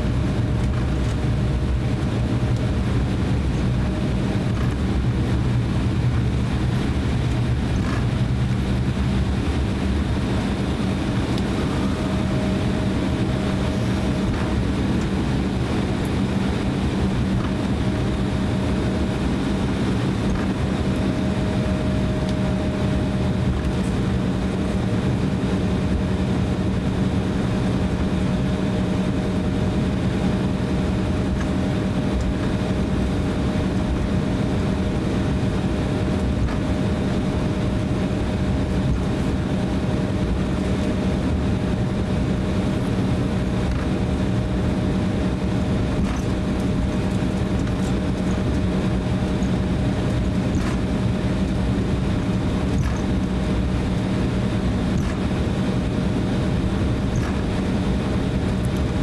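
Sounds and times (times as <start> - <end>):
airliner engines low drone: 0.0 - 59.0
high steady engine tone: 0.0 - 59.0.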